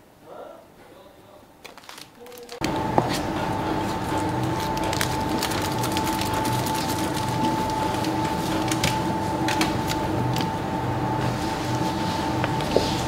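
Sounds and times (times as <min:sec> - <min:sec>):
machinery hum: 0:02.4 - 0:13.0.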